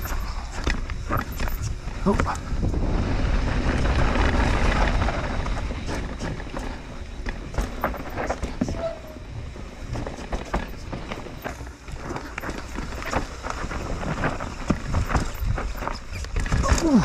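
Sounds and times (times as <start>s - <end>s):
bike chain and frame rattling: 0.0s - 17.0s
wind: 0.0s - 17.0s
tyre rumble: 1.0s - 17.0s.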